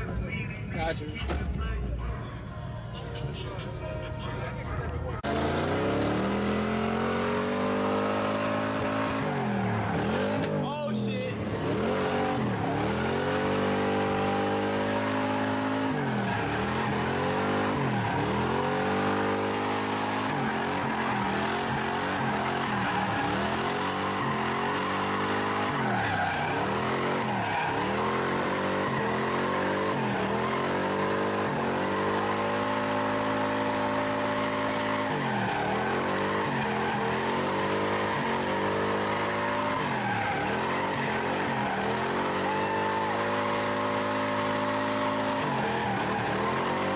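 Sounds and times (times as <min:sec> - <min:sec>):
car engine revving: 0:03.2 - 0:46.9.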